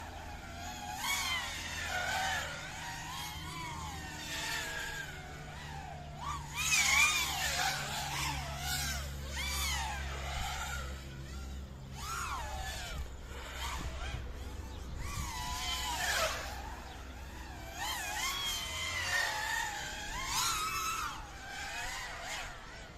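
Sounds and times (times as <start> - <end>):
drone motors whining: 0.0 - 22.9.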